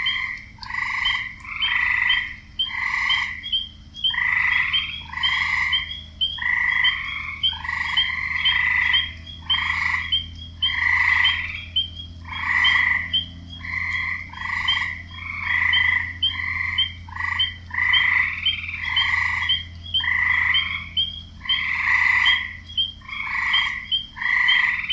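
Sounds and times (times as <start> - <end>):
frogs croaking: 0.0 - 24.9.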